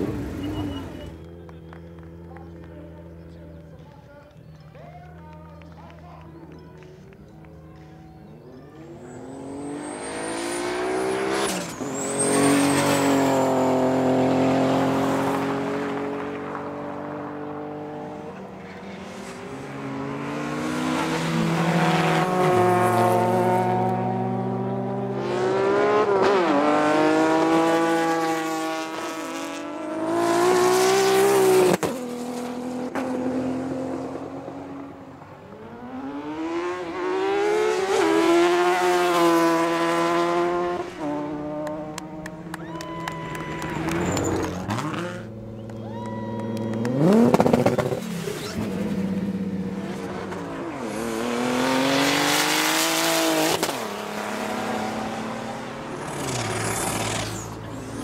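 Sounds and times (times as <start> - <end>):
drag-race engines at full throttle: 0.0 - 58.0.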